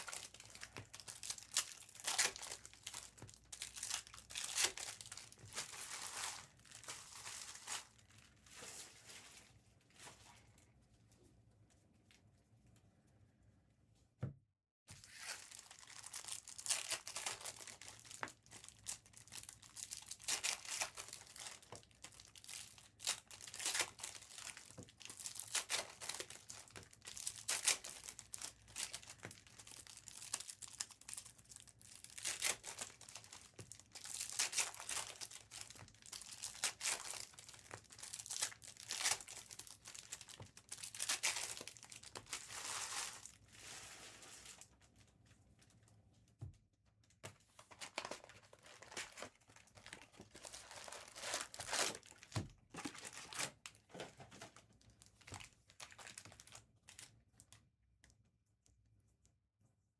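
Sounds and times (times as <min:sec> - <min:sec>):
plastic wrappers crinkling and tearing: 0:00.0 - 0:10.6, 0:14.9 - 0:45.1, 0:47.2 - 0:57.1.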